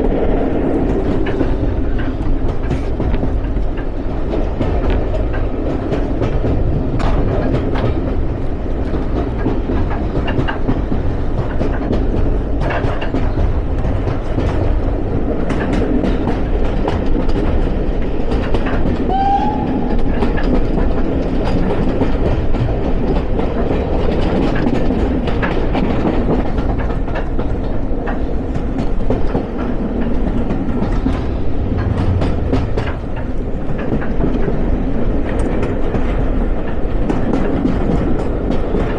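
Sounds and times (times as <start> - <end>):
clicks over rail joints: 0.0 - 34.5
train wheels rumbling: 0.0 - 38.9.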